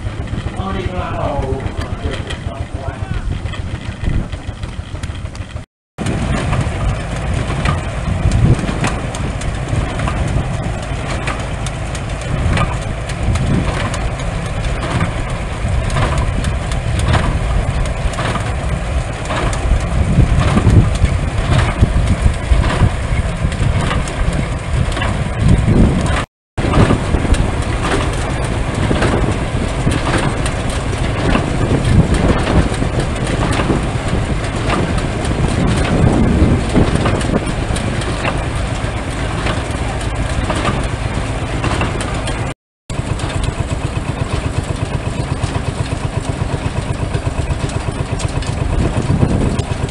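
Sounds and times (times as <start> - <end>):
baler machine running: 0.0 - 49.9
threshing machine running: 0.0 - 49.9.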